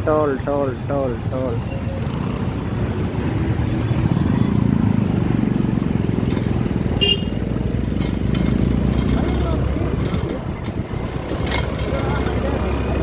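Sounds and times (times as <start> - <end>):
motorcycle engine running: 1.2 - 13.0.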